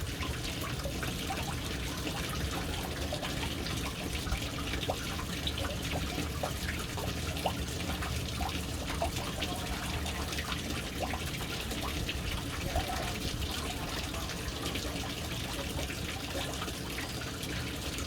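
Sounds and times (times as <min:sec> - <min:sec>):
water splashing into a tank: 0:00.0 - 0:18.0.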